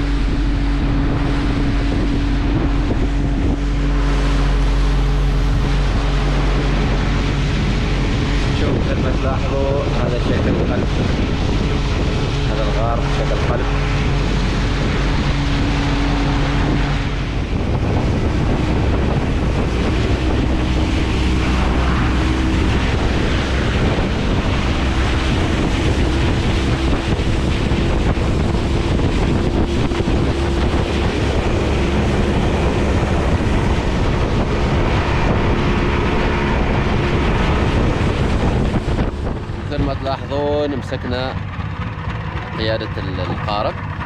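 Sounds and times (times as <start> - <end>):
outboard motor running: 0.0 - 44.0
water rushing along hull: 0.0 - 44.0
wind buffeting microphone: 0.0 - 44.0.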